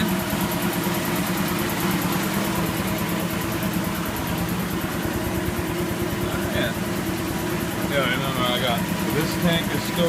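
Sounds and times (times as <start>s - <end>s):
air compressor pump pulsing: 0.0s - 10.0s
electric motor hum: 0.0s - 10.0s.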